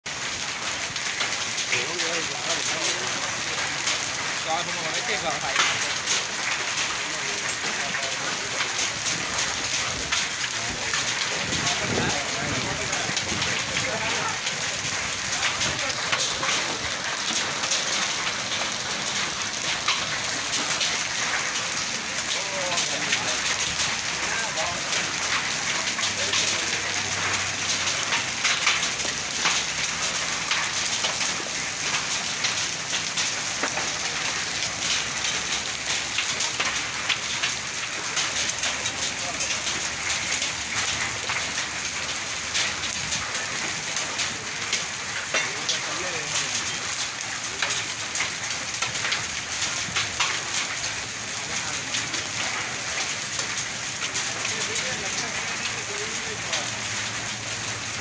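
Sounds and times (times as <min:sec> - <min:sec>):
hailstones hitting: 0:00.0 - 0:58.0
heavy rain on road: 0:00.0 - 0:58.0.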